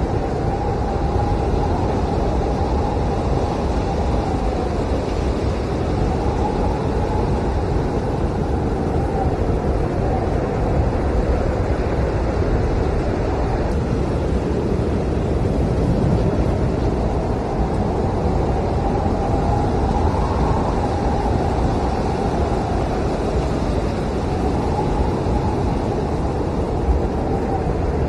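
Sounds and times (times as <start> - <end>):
faint howling whistle: 0.0 - 10.7, 15.6 - 28.0
blizzard wind blowing hard: 0.0 - 28.0.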